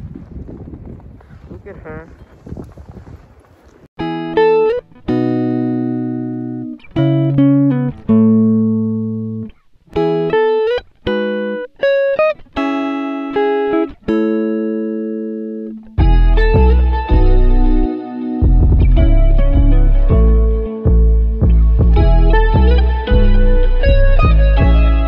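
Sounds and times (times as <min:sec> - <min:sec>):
plucked guitar melody: 0:04.0 - 0:25.0.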